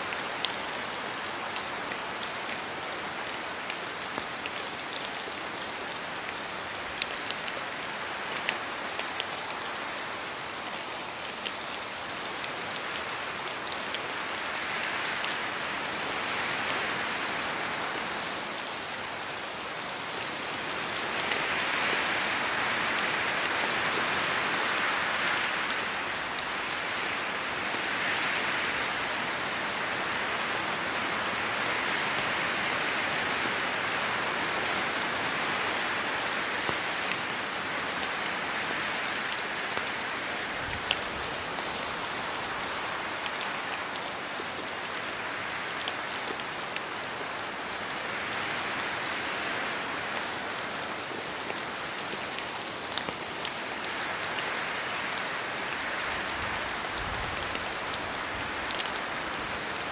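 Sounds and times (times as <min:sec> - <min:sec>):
steady rain with drop ticks: 0:00.0 - 0:59.9
wind gusting through trees: 0:00.0 - 0:59.9.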